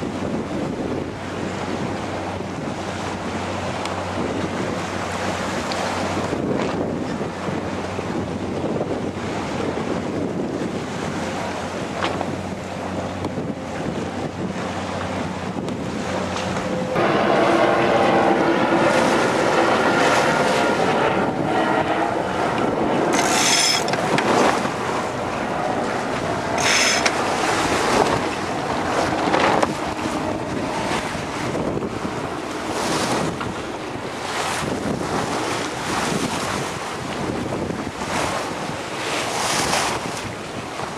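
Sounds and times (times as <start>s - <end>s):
water rushing past hull: 0.0s - 40.9s
wind buffeting microphone: 0.0s - 40.9s.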